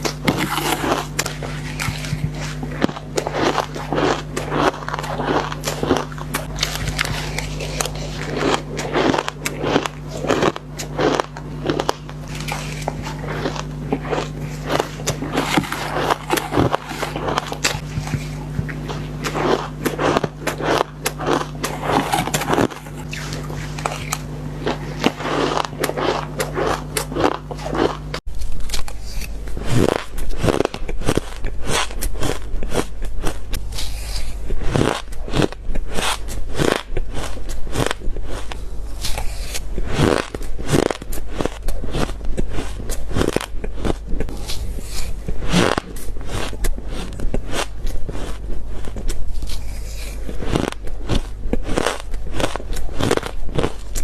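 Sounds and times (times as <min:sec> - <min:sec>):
crunching bites into shaved ice: 0:00.0 - 0:44.6, 0:45.4 - 0:54.0
steady low hum: 0:00.0 - 0:54.0.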